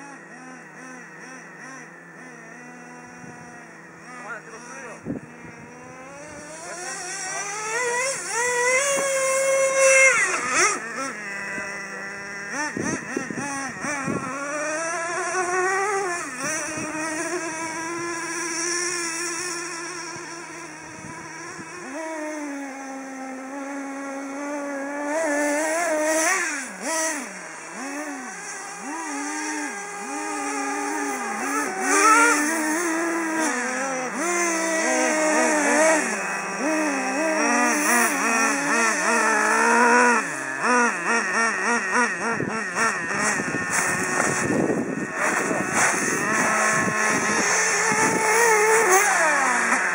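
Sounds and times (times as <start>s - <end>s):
model car engine revving: 0.0s - 49.9s.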